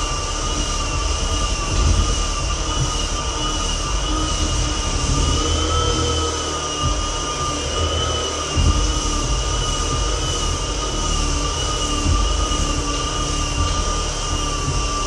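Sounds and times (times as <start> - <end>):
floor edger motor whine: 0.0 - 15.0
sanding disc grinding: 0.0 - 15.0.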